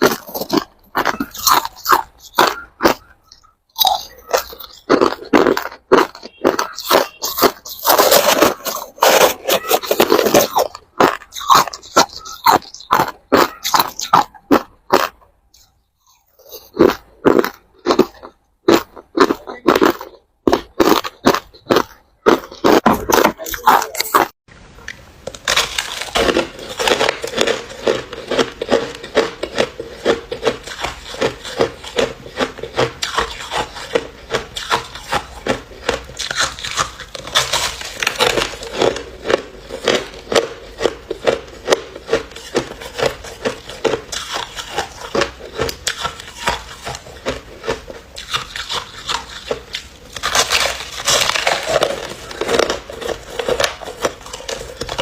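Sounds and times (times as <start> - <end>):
ice crunching being chewed: 0.0 - 24.4, 25.3 - 55.0.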